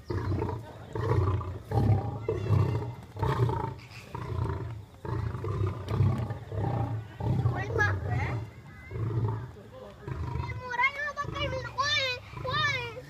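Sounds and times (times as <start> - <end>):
lions snarling and growling: 0.0 - 8.3, 8.9 - 13.0.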